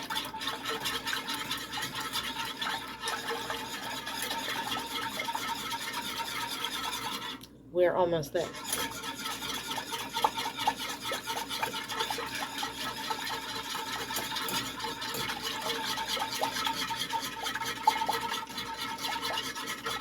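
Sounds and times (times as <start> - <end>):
whisk scraping in a pot: 0.0 - 20.0.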